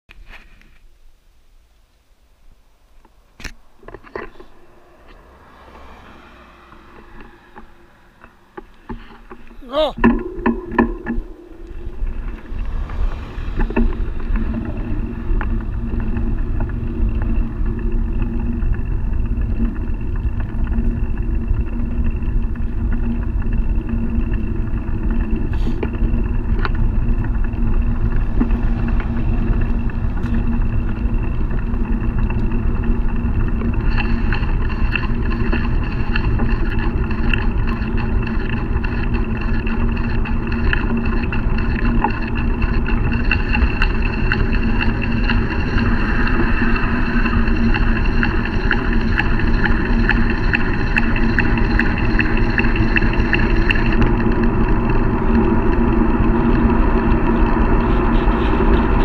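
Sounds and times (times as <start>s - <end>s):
constant hums: 0.1s - 59.0s
high steady whine: 0.1s - 59.0s
tyres on asphalt: 0.1s - 59.0s
wind rumble: 0.2s - 59.0s.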